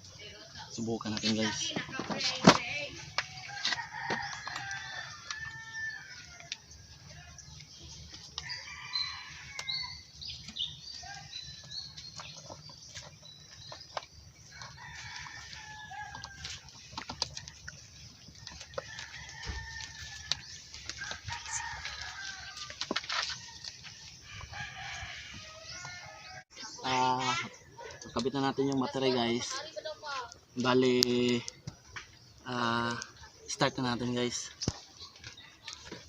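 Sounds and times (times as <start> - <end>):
birds calling: 0.0 - 36.0.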